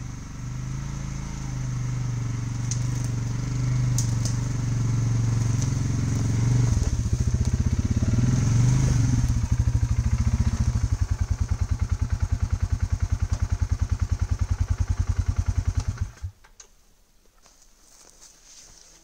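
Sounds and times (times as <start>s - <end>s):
quad bike engine idling: 0.0s - 16.4s.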